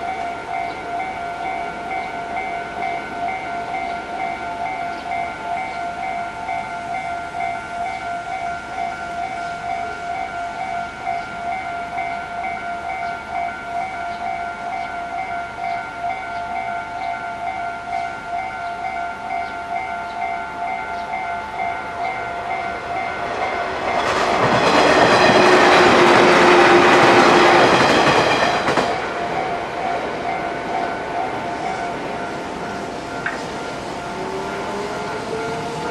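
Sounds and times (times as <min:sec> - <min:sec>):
level crossing alarm ringing: 0:00.0 - 0:35.9
train passing: 0:00.0 - 0:35.9.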